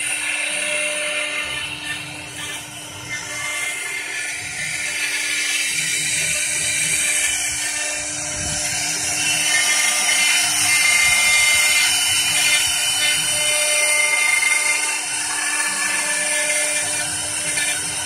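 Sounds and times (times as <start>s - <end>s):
spindle high-pitched whine: 0.0s - 18.0s.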